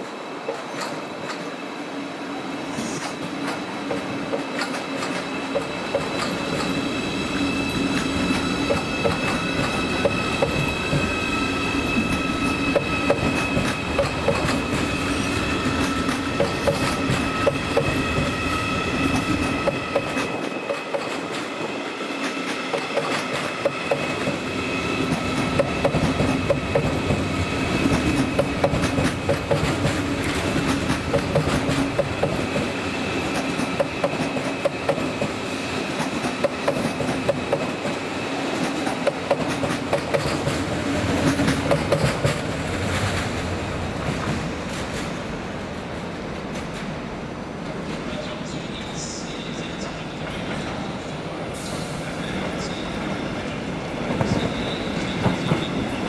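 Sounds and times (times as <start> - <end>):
train whine and hum: 0.0 - 56.0
train wheels clacking: 0.4 - 1.6, 2.7 - 45.3, 54.0 - 56.0.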